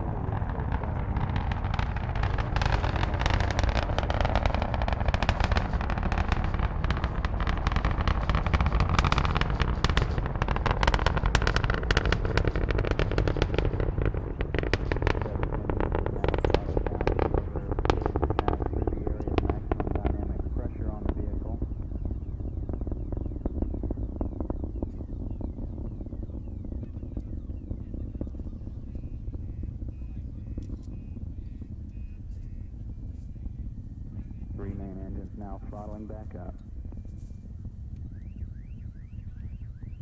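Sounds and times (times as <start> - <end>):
rocket engines rumbling and crackling: 0.0 - 40.0.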